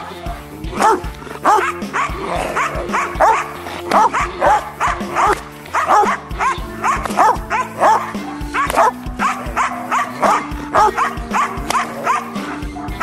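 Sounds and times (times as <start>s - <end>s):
background music: 0.0s - 13.0s
dog barking: 0.7s - 13.0s.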